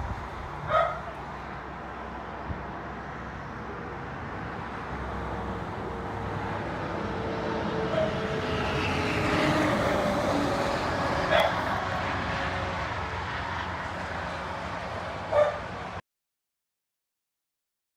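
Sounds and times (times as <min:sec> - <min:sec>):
distant engine drone: 0:00.0 - 0:16.0.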